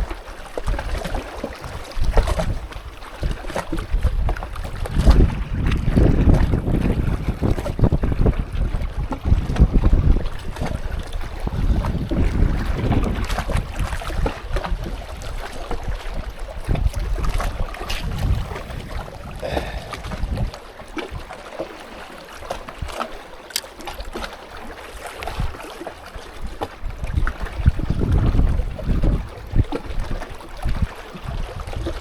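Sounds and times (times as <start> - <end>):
wind buffeting microphone: 0.0 - 21.5, 24.0 - 32.0.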